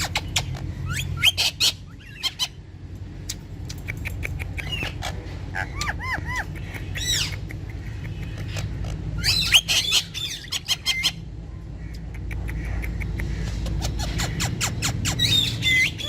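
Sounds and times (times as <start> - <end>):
parrots squawking and chirping: 0.0 - 16.0
steady low hum: 0.0 - 16.0.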